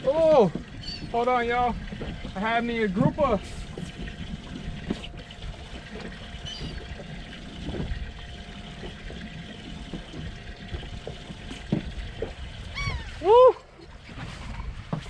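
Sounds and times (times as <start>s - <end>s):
water lapping against a hull: 0.0s - 15.0s.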